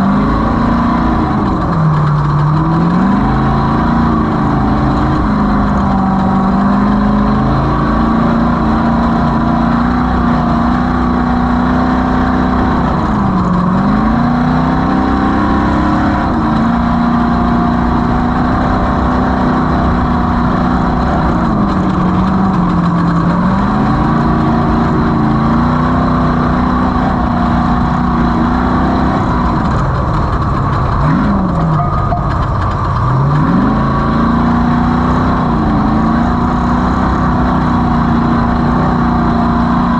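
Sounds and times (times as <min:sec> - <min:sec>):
race vehicle engine revving: 0:00.0 - 0:39.9
wind and terrain noise: 0:00.0 - 0:39.9.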